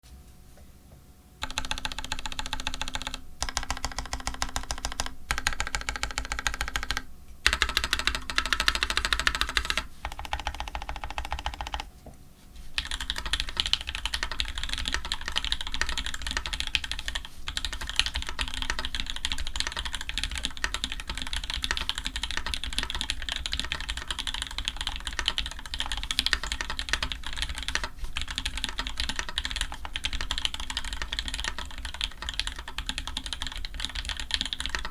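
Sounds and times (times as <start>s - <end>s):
fast mechanical keyboard typing: 1.4s - 11.9s, 12.8s - 34.9s.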